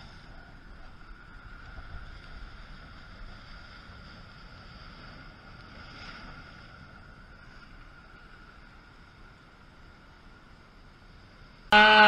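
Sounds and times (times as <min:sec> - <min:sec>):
wind rumble on microphone: 0:00.0 - 0:11.8.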